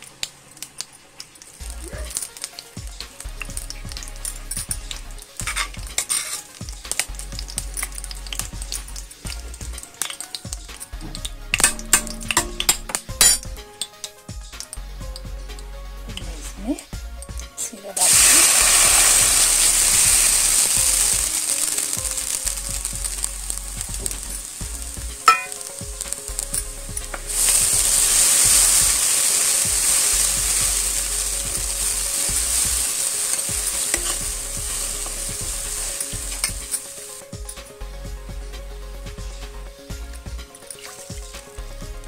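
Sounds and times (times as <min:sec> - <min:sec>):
batter sizzling in hot ghee: 0:00.0 - 0:14.9, 0:18.0 - 0:38.0.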